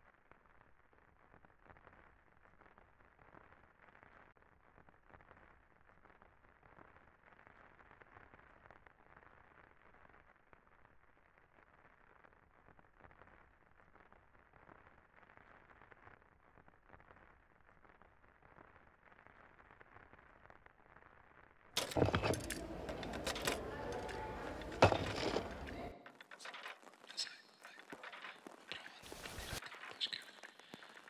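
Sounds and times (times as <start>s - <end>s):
faint hiss with crackle: 0.0s - 21.8s, 25.4s - 31.0s.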